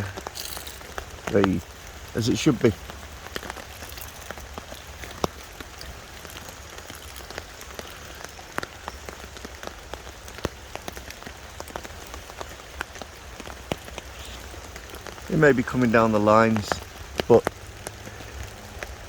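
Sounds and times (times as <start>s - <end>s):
heavy rain on a tarp: 0.0s - 19.0s
raindrop taps: 0.0s - 19.0s.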